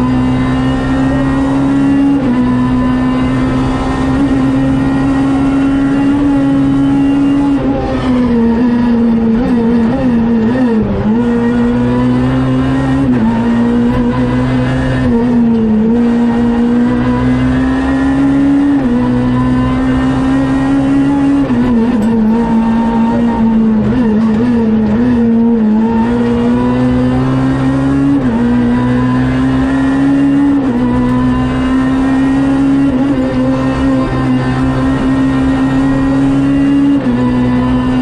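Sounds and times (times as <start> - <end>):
rally car engine revving: 0.0 - 38.0.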